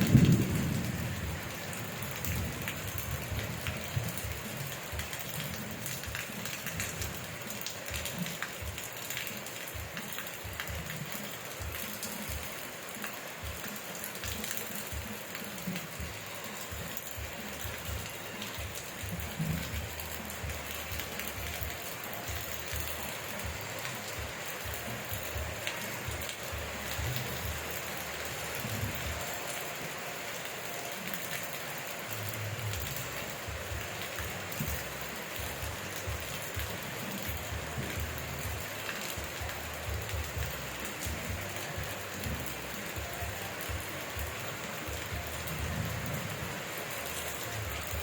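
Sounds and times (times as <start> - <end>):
rain drop ticks: 0.0 - 48.0
rain hiss: 0.0 - 48.0.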